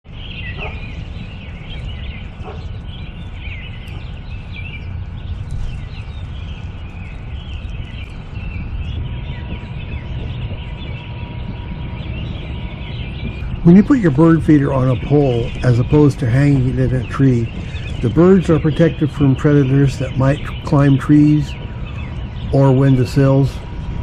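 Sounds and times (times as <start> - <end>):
small birds chirping: 0.1 - 24.0
steady low rumble: 0.1 - 24.0.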